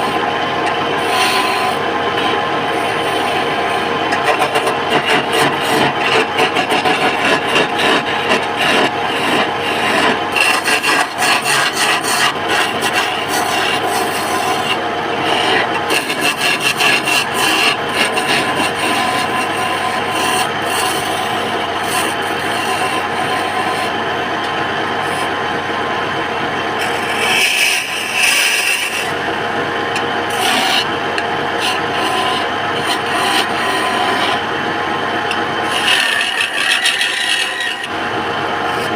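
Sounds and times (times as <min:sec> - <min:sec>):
wood lathe hum: 0:00.0 - 0:38.9
turning tool rasping on wood: 0:01.0 - 0:24.0, 0:26.8 - 0:29.2, 0:30.3 - 0:30.9, 0:31.5 - 0:34.4, 0:35.3 - 0:38.0, 0:38.7 - 0:38.9.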